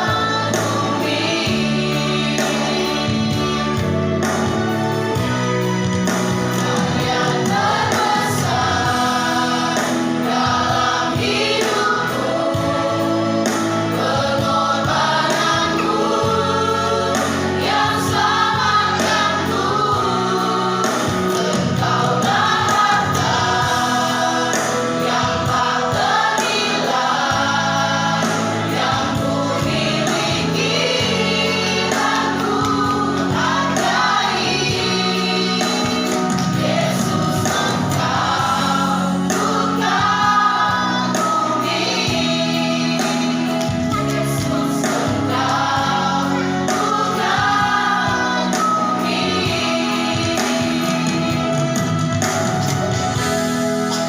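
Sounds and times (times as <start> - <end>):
choir singing a hymn: 0.0 - 54.0
instrumental accompaniment: 0.0 - 54.0.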